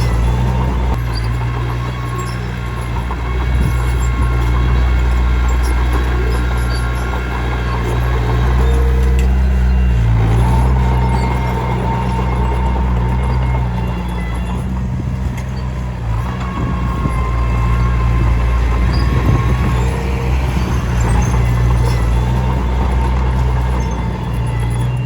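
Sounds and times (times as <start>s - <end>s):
diesel engine under load: 0.0s - 25.0s
steel tracks clanking: 0.0s - 25.0s.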